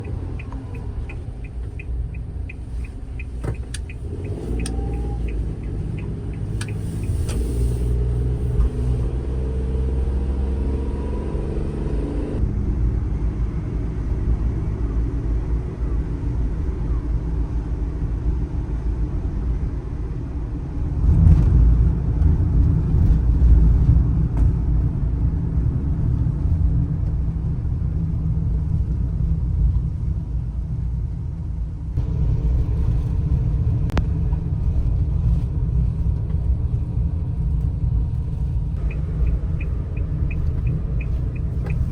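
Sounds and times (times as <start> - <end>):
road rumble: 0.0 - 41.9.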